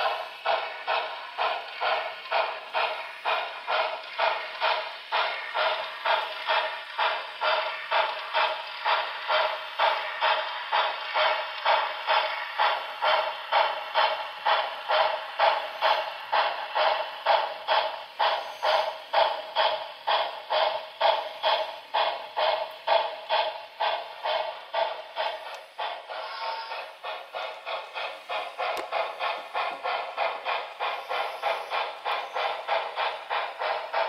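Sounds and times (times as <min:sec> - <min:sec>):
model steam locomotive chuffs: 0:00.0 - 0:34.0.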